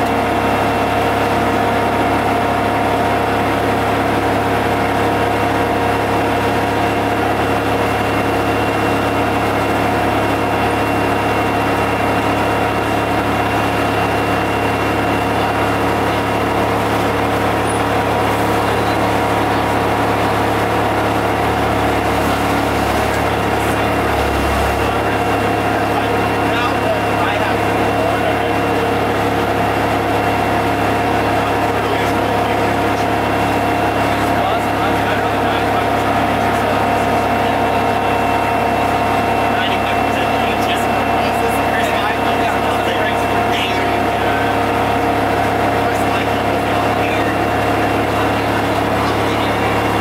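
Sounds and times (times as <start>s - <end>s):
bus diesel engine droning: 0.0s - 50.0s.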